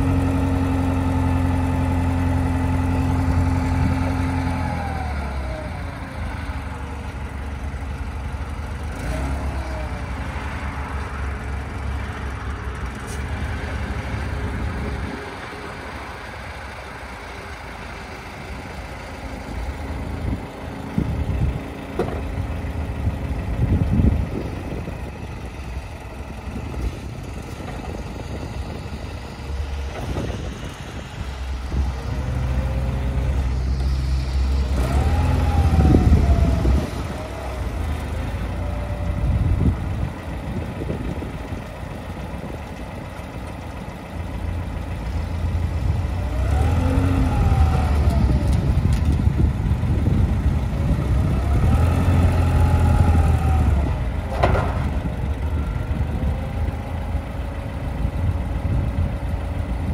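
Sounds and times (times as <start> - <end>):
engine whine: 0.0 - 59.9
forklift engine revving: 0.0 - 59.9.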